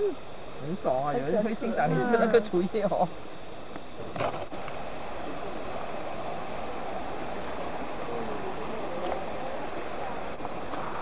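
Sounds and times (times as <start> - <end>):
crickets and night insects: 0.0 - 11.0
steady rushing hiss: 0.0 - 11.0.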